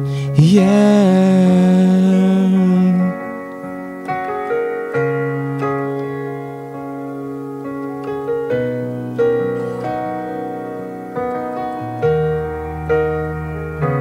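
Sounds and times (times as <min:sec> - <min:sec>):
sustained piano chords: 0:00.0 - 0:14.0.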